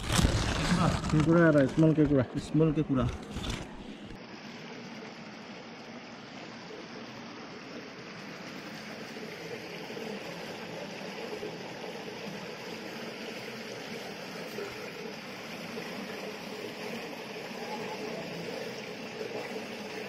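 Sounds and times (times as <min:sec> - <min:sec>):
water running over rocks: 0:00.0 - 0:03.2, 0:04.7 - 0:20.0.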